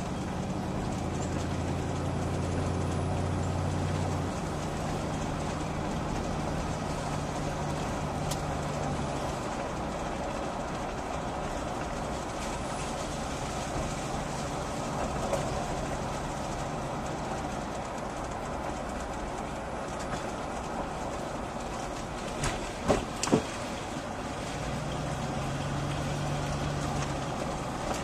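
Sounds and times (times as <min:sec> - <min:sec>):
moving vehicle rumble: 0:00.0 - 0:28.0.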